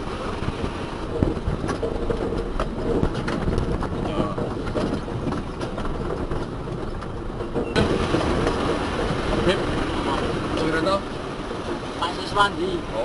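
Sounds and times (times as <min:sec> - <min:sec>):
vehicle engine and road rumble: 0:00.0 - 0:13.0
rattles and knocks: 0:00.2 - 0:13.0.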